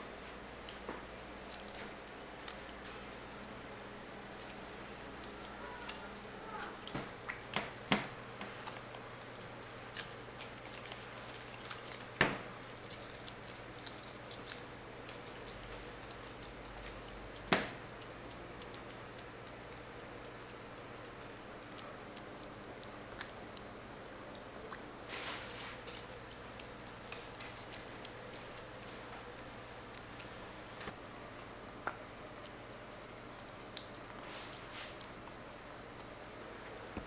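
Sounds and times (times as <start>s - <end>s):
hands shaping cookie dough: 0.0s - 37.0s.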